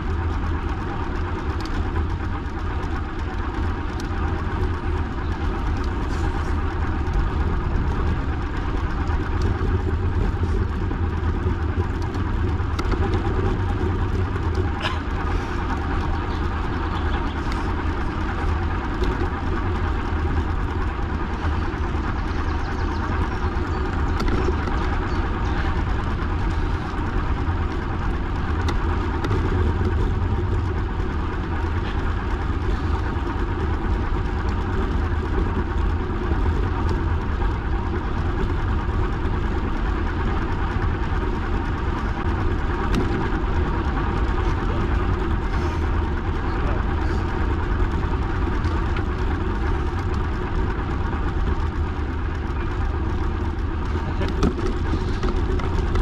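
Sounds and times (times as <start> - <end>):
constant mid-pitched hum: 0.0 - 56.0
wheels rolling along a path: 0.0 - 56.0
wind rumble: 0.0 - 56.0.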